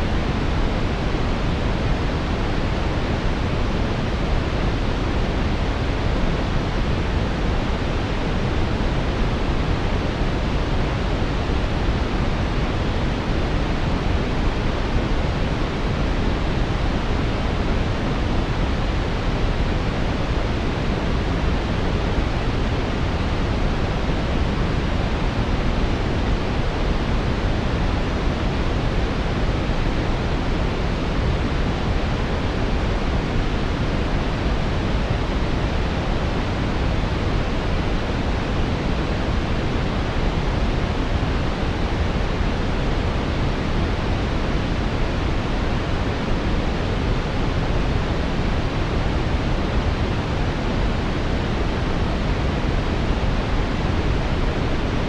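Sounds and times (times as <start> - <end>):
brown noise hiss: 0.0 - 55.0.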